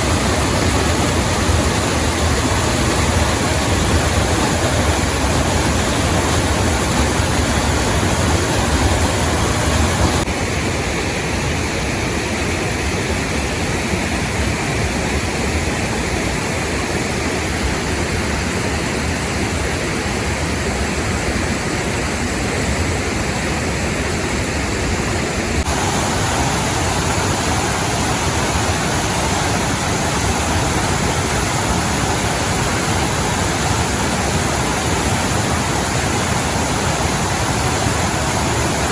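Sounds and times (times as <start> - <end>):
water rushing in rocky stream: 0.0 - 21.5, 22.2 - 38.9.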